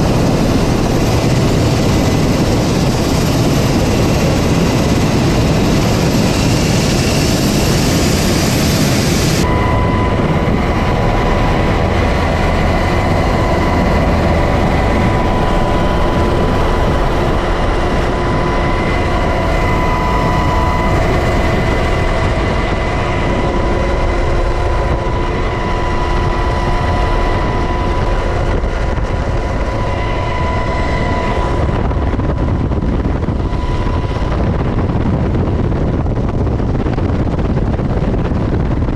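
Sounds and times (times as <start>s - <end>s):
helicopter rotor and engine noise: 0.0s - 38.9s
steady high whine: 0.0s - 38.9s.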